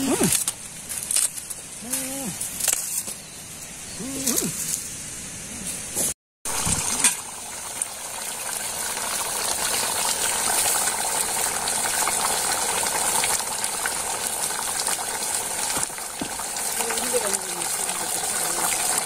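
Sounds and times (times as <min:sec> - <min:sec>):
fire crackling: 0:00.0 - 0:19.0
stew boiling and bubbling: 0:00.0 - 0:19.0.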